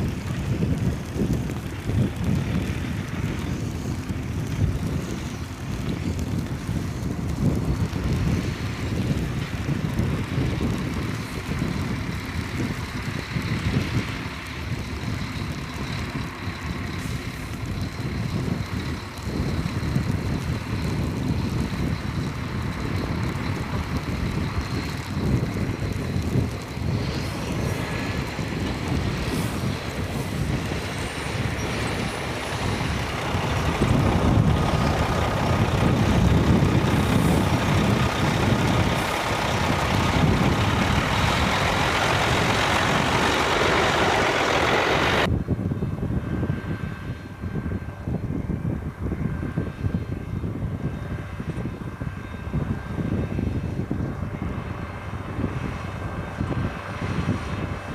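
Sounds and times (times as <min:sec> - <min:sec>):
deep engine drone: 0:00.0 - 0:57.9
snow-clearing machinery rushing: 0:00.0 - 0:57.9.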